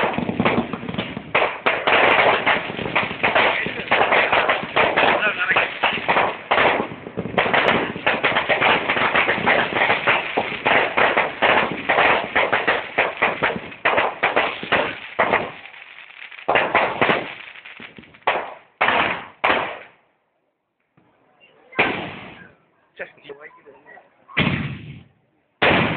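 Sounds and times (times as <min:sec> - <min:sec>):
fireworks crackling and banging: 0:00.0 - 0:20.0, 0:21.7 - 0:22.5, 0:24.4 - 0:25.9.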